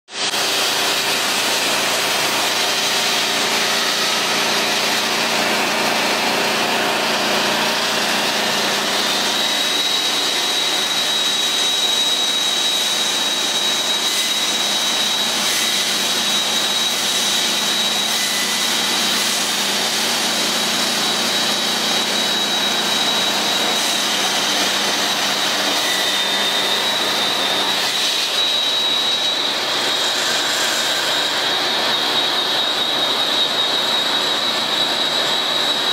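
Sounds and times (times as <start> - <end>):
concrete saw cutting concrete: 0.1 - 35.9
high whine of saw blade: 0.1 - 35.9.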